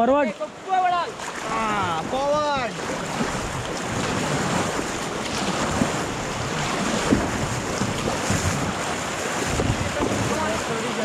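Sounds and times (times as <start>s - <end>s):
paddles splashing: 0.0s - 11.0s
river water rushing: 0.0s - 11.0s
wind buffeting microphone: 1.4s - 11.0s.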